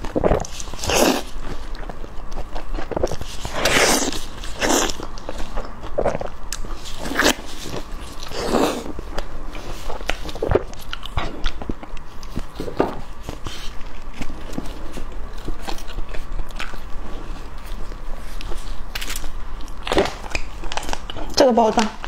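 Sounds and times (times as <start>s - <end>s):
biting and chewing food: 0.0s - 22.0s.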